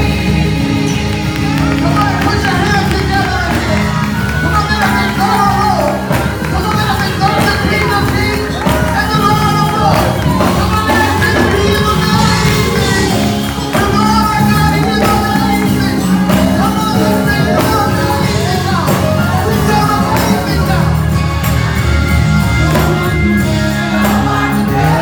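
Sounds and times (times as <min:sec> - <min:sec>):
gospel choir singing: 0:00.0 - 0:25.0
live band playing: 0:00.0 - 0:25.0
tambourine: 0:00.0 - 0:25.0.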